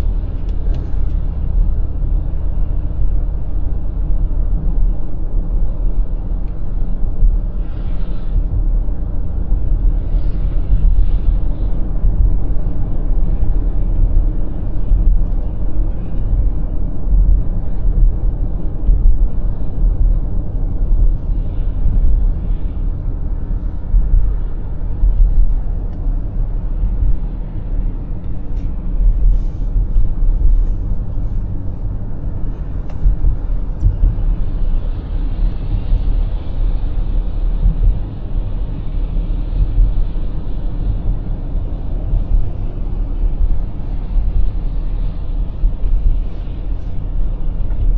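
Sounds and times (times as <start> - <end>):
car driving at highway speed: 0.0 - 47.9.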